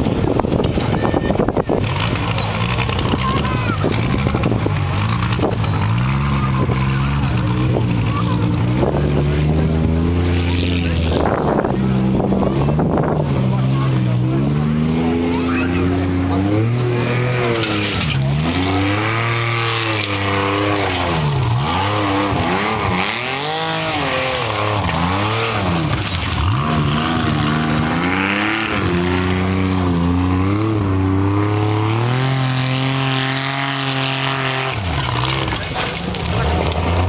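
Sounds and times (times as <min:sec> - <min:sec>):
buggy engine revving hard: 0:00.0 - 0:37.0.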